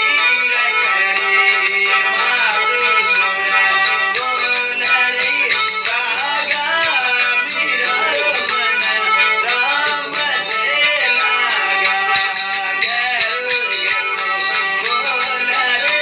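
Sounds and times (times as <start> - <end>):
man singing: 0.0 - 16.0
rattling clicks keeping beat: 0.0 - 16.0.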